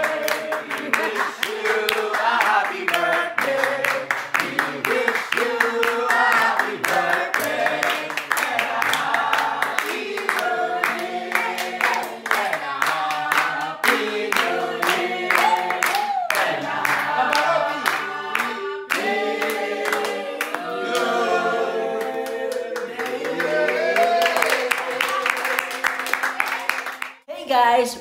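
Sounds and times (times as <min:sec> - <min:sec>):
hands clapping: 0:00.0 - 0:21.2, 0:22.0 - 0:27.2
group singing unaccompanied: 0:00.0 - 0:26.4.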